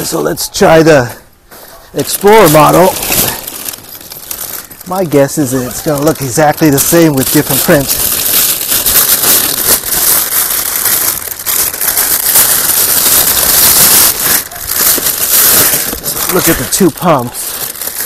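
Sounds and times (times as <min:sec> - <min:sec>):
plastic bag crinkling: 0:02.0 - 0:18.0.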